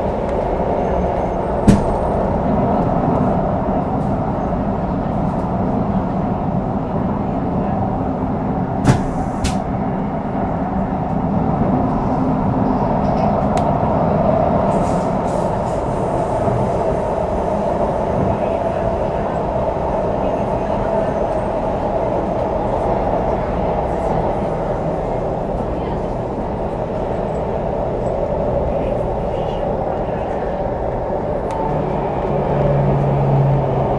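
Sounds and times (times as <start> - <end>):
wheels on rail rumbling: 0.0 - 33.9.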